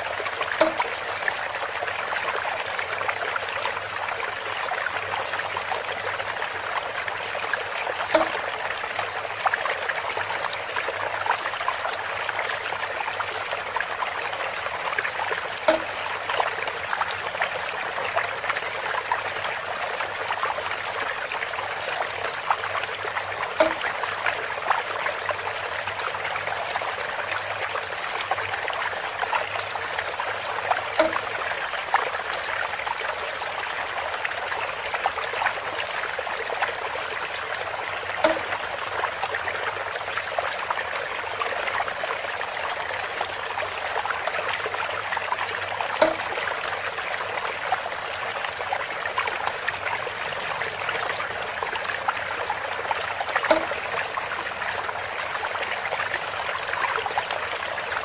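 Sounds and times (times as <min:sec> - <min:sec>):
water trickling through bamboo: 0:00.0 - 0:58.0.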